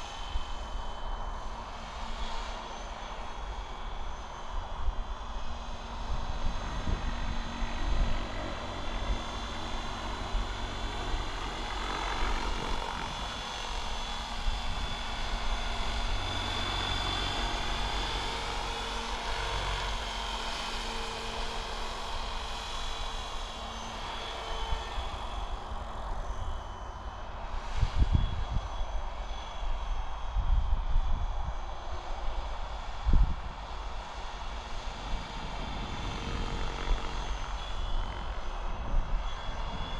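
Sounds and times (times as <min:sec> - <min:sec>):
model helicopter motor whine: 0:00.0 - 0:39.9
wind rumbling on microphone: 0:00.0 - 0:39.9.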